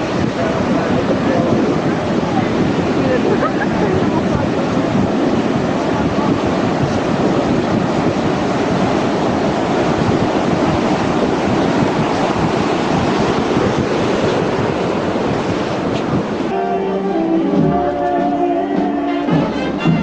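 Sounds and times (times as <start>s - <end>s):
surf breaking and washing: 0.0s - 20.0s
wind buffeting microphone: 0.0s - 20.0s.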